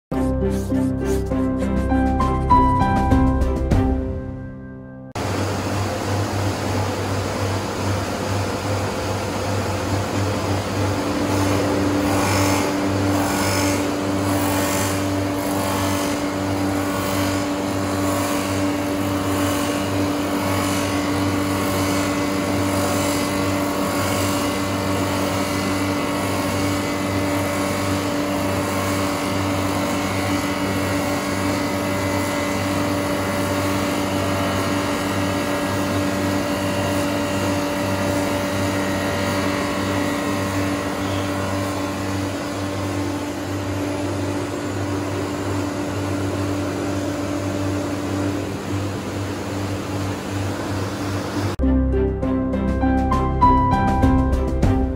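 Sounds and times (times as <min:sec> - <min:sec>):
lathe machine hum: 0:05.1 - 0:51.6.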